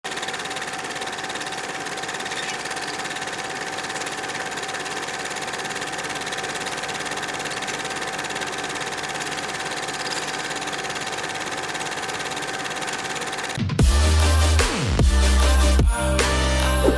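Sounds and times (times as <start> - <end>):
film projector clattering: 0.0 - 14.5.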